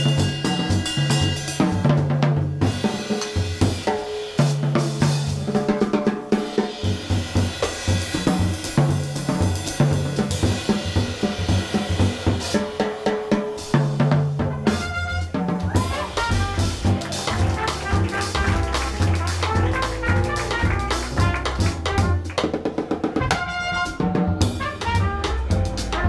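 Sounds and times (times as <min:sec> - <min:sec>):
jazz drum kit with sticks: 0:00.0 - 0:26.0.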